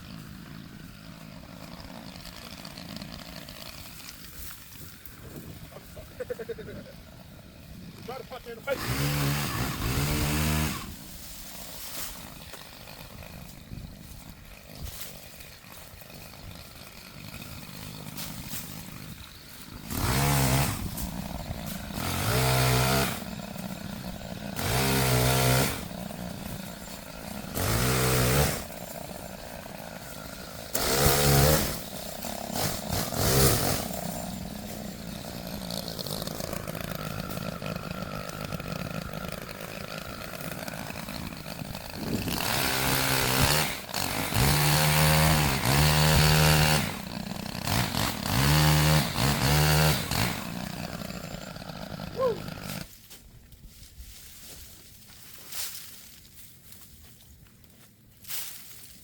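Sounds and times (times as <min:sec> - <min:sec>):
chainsaw idling and revving: 0:00.0 - 0:53.0.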